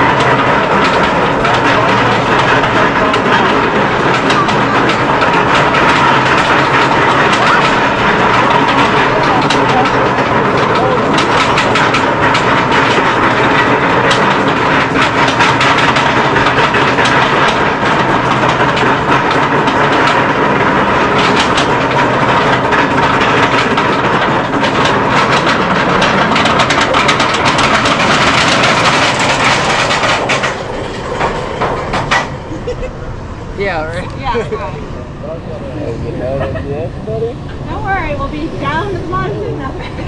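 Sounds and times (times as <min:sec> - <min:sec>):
roller coaster rattle and rumble: 0:00.0 - 0:40.0
steady whine: 0:00.0 - 0:40.0
wheels clicking: 0:00.0 - 0:40.0.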